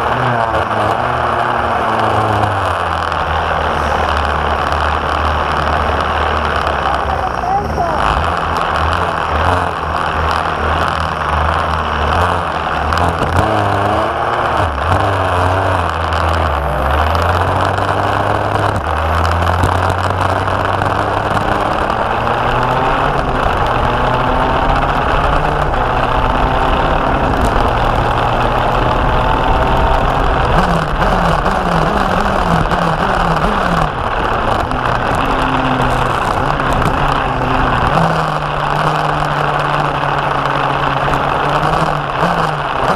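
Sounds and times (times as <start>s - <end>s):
go-kart engine racing: 0.0s - 42.9s.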